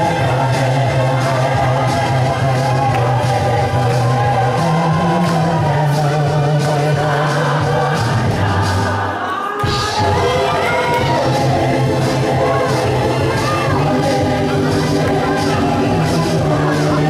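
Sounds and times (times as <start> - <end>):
congregation singing a hymn: 0.0 - 17.0
low bass notes: 0.0 - 17.0.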